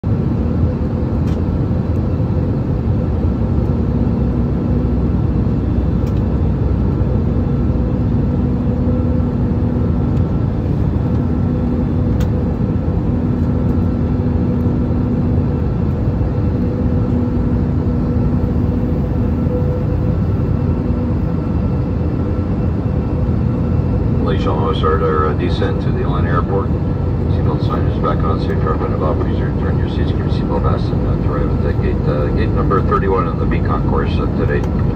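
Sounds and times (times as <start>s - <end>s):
engine and rushing air drone: 0.0s - 34.9s
lower hum: 0.0s - 34.9s.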